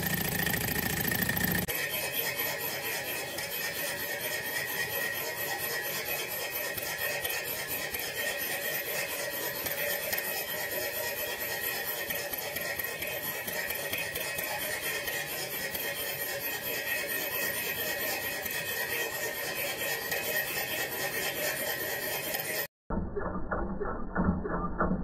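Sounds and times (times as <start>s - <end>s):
model engine whirring: 0.0s - 22.7s.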